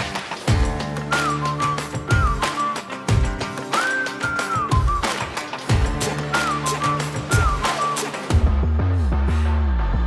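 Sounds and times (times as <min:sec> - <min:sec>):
drum beat: 0:00.0 - 0:08.6.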